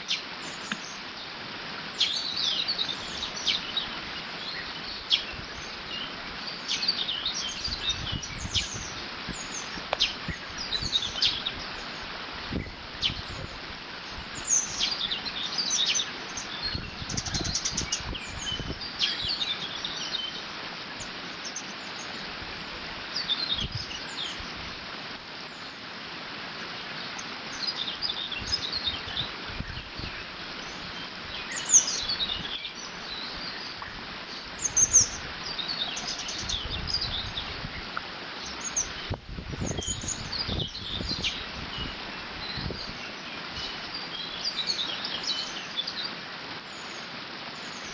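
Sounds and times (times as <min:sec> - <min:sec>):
songbirds chirping and singing: 0:00.0 - 0:24.8, 0:26.7 - 0:47.9
wind gusts: 0:00.0 - 0:47.9.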